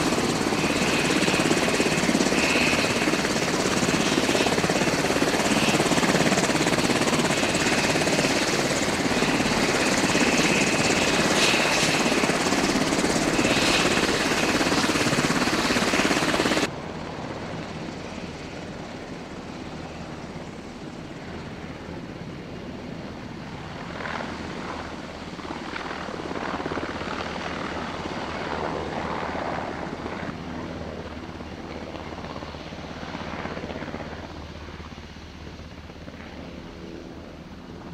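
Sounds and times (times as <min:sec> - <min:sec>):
helicopter engines and rotors: 0:00.0 - 0:37.9
helicopter flying past: 0:00.0 - 0:37.9.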